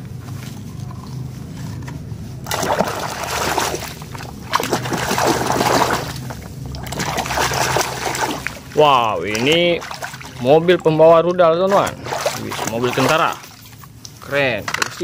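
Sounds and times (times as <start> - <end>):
water splashing and sloshing: 1.7 - 15.0.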